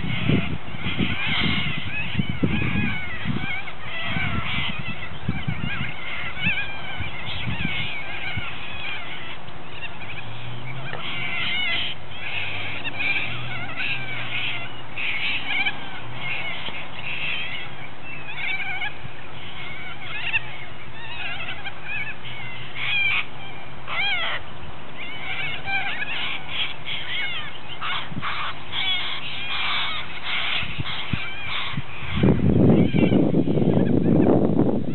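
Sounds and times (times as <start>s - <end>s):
flock of birds screeching: 0.0s - 34.6s.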